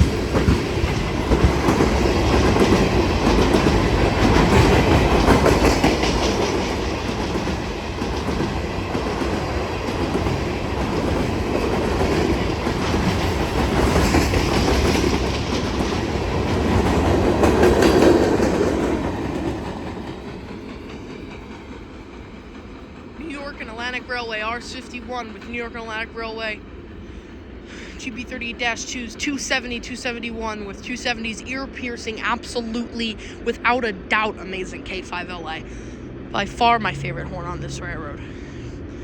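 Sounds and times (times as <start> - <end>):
freight train cars rolling past: 0.0 - 39.0.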